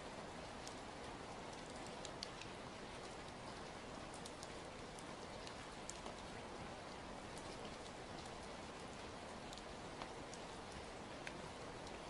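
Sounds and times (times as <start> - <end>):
steady rain hiss: 0.0 - 12.0
raindrops ticking: 0.2 - 12.0.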